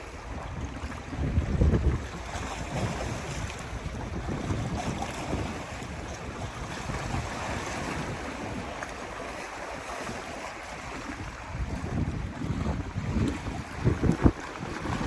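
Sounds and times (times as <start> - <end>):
sea surf washing: 0.0 - 15.0
wind buffeting microphone: 0.0 - 15.0.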